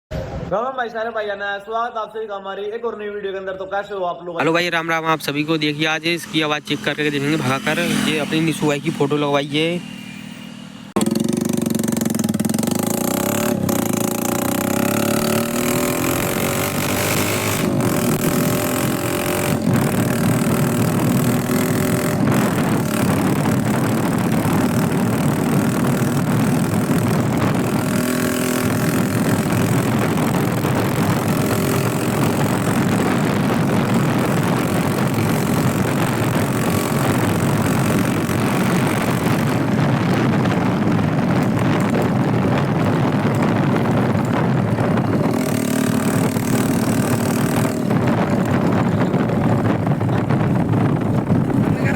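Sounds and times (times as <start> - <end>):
vehicle engine accelerating: 4.4 - 51.9
wind and road noise: 4.4 - 51.9.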